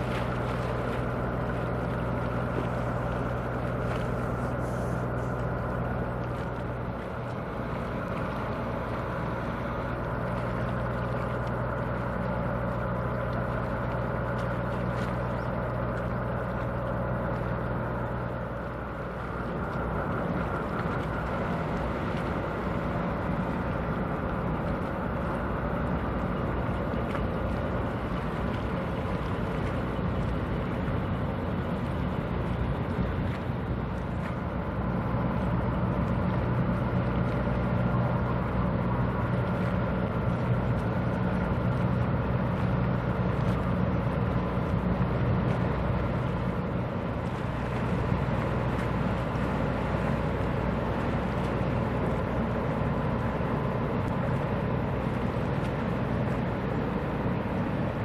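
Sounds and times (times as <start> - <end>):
ferry engines droning: 0.0 - 58.0.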